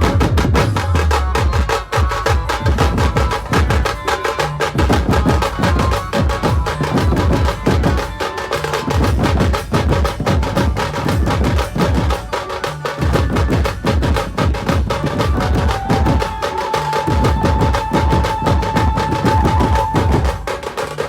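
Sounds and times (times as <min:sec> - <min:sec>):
band with fast dense drumming: 0:00.0 - 0:21.0.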